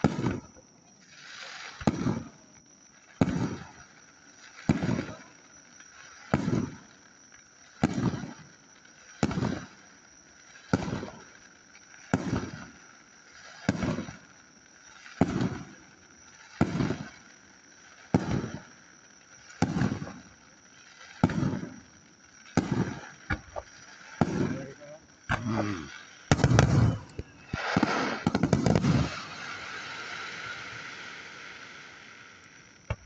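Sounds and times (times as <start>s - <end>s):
firework bangs: 0.0s - 5.3s, 6.1s - 6.9s, 7.7s - 9.9s, 10.5s - 33.0s.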